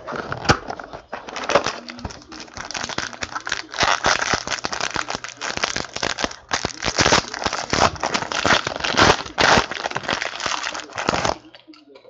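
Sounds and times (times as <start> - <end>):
wrapper crinkling as torn open: 0.0 - 11.5.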